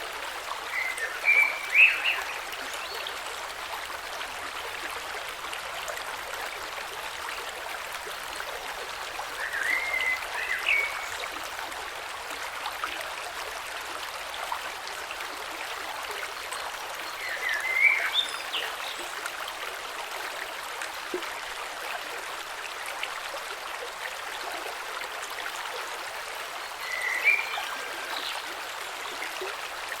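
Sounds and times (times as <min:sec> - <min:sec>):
creek flowing over stones: 0:00.0 - 0:30.0.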